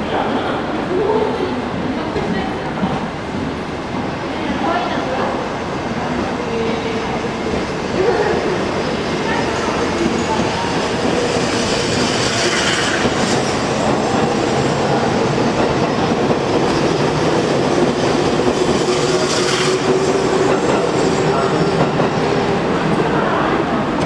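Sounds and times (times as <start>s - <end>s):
train wheels running on rails: 0.1s - 24.0s.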